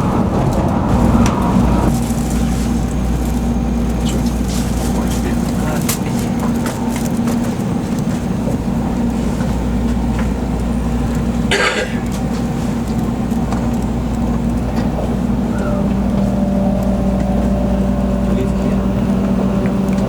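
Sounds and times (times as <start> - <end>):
higher hum: 0.0 - 20.0
train cabin rumble and hum: 0.0 - 20.0.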